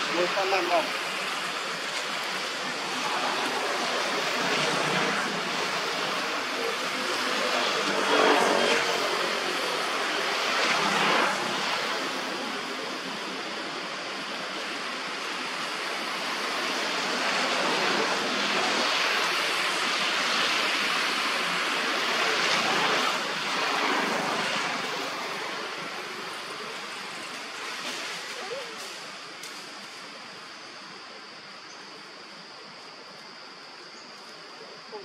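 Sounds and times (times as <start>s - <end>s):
steady rushing noise: 0.0s - 34.4s.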